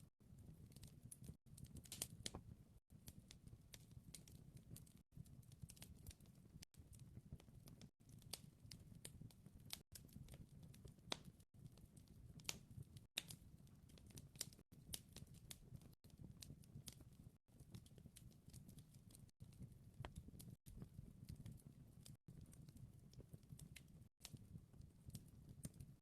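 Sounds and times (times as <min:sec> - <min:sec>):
wood fire crackling: 0:00.3 - 0:26.0.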